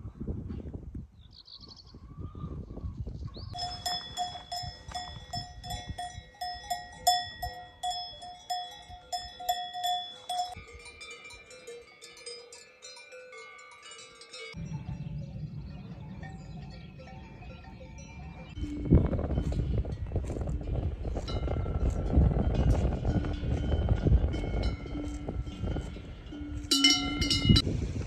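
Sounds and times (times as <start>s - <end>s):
metal cowbells clanging: 3.5s - 15.4s, 16.0s - 27.7s.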